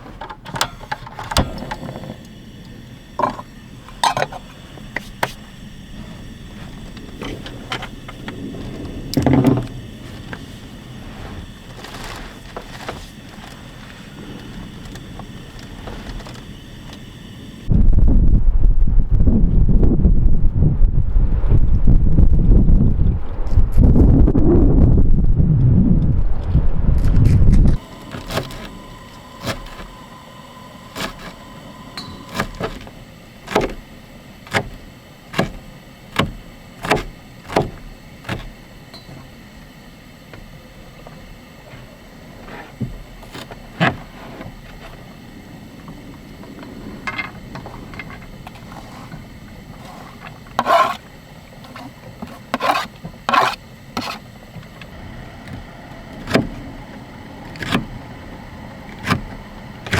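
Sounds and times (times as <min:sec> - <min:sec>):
low background rumble: 0:00.8 - 0:53.2.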